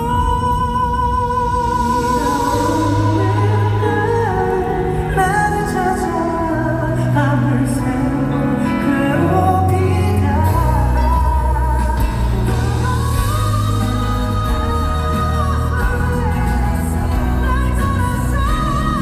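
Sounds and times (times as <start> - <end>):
band accompaniment with bass: 0.0 - 19.0
man singing pop ballad: 0.0 - 19.0.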